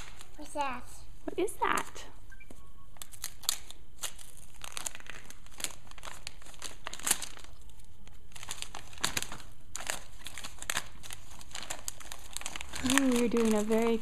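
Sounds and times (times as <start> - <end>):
wrapping paper tearing and crumpling: 0.0 - 0.4, 3.0 - 14.0.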